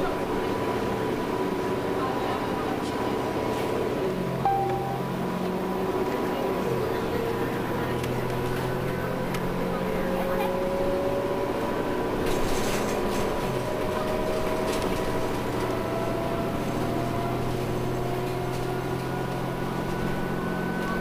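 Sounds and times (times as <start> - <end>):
bus engine and drivetrain hum: 0.0 - 21.0.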